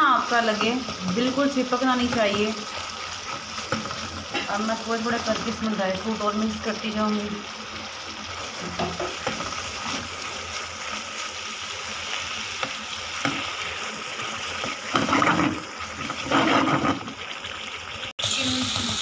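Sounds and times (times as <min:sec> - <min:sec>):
spatula stirring and scraping: 0:00.0 - 0:06.1, 0:07.8 - 0:17.6
milk sizzling in a pan: 0:00.0 - 0:19.0.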